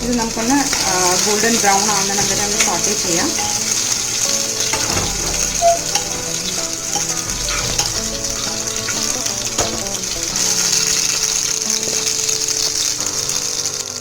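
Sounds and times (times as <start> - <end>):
garlic sizzling in hot oil: 0.0 - 14.0.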